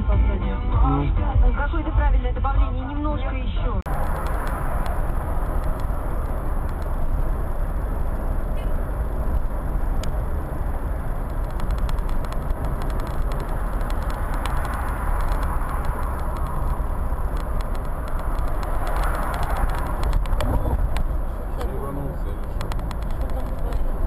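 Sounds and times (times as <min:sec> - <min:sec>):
car road and engine noise: 0:03.6 - 0:24.0
faint clicks: 0:03.9 - 0:24.0.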